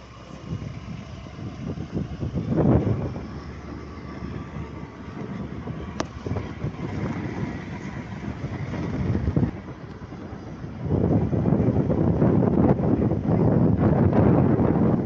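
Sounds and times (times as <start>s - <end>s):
vehicle rumbling from inside: 0.0s - 15.0s.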